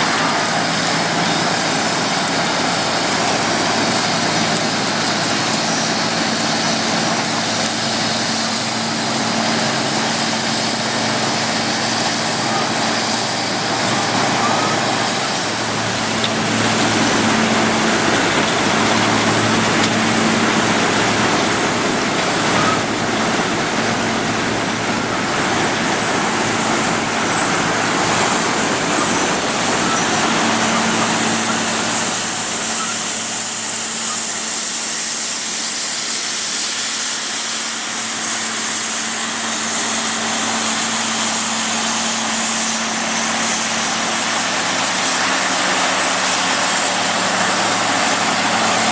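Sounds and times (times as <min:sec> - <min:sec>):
diesel engine hum: 0:00.0 - 0:48.9
rough milling noise: 0:00.0 - 0:48.9.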